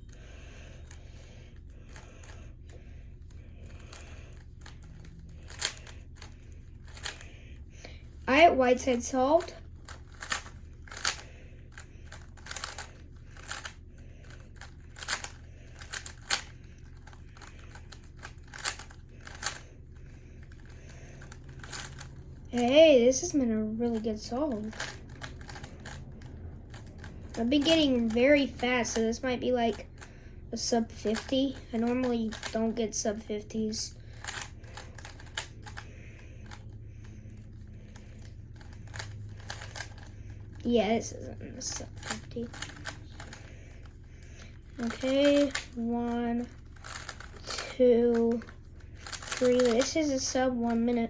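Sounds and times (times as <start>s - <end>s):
steady low hum: 0.0s - 51.0s
puzzle cube clicking and rattling: 0.2s - 7.4s, 8.7s - 23.3s, 23.9s - 30.0s, 30.6s - 33.1s, 33.7s - 51.0s.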